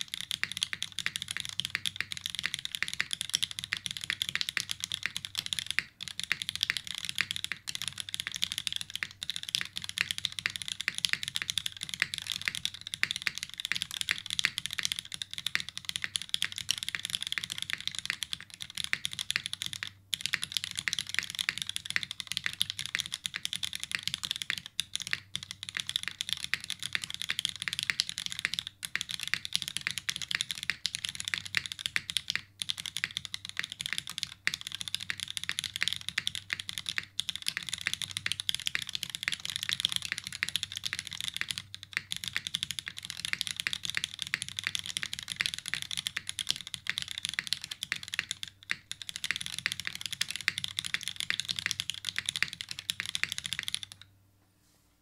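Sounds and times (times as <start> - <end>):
fast typing on mechanical keyboard: 0.0 - 54.1.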